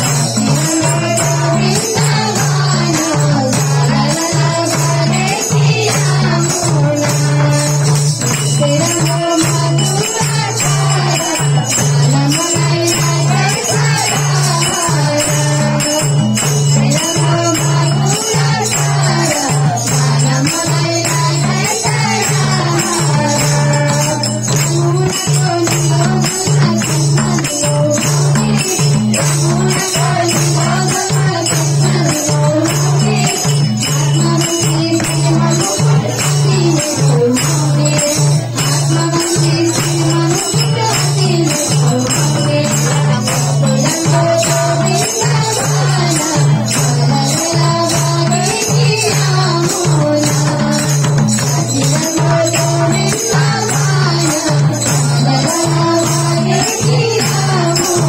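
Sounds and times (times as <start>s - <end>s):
hand clapping: 0.0s - 58.0s
hand drums: 0.0s - 58.0s
voices singing: 0.0s - 58.0s.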